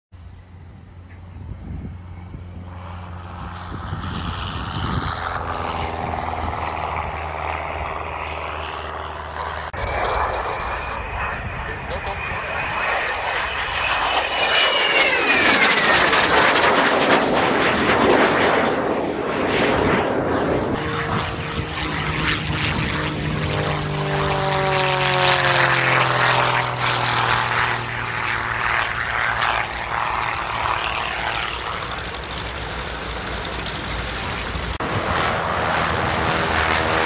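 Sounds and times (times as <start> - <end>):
propeller plane passing low: 0.2 - 37.0
small jet flying past: 0.2 - 37.0.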